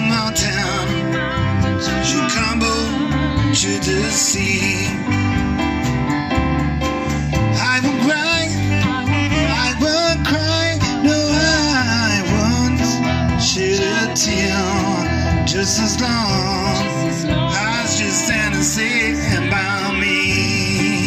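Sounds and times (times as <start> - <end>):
man singing: 0.0 - 5.7, 7.3 - 21.0
rock and roll band playing: 0.0 - 21.0.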